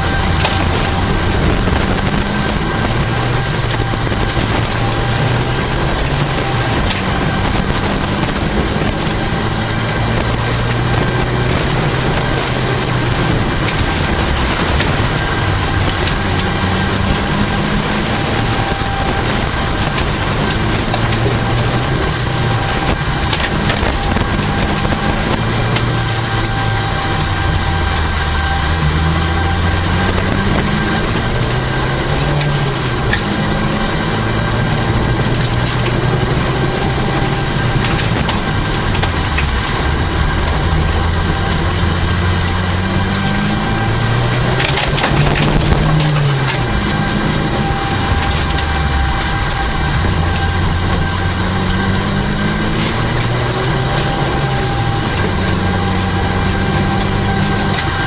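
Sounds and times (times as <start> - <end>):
rally car engine revving: 0.0 - 58.0
tyre and road noise: 0.0 - 58.0.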